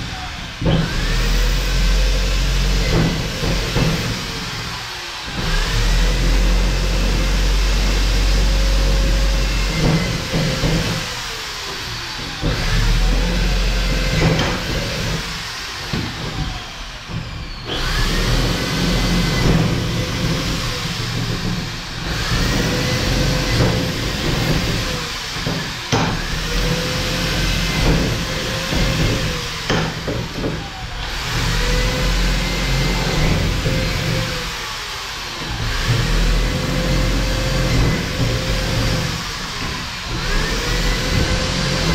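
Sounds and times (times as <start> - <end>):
electric drill whining: 0.0 - 41.9.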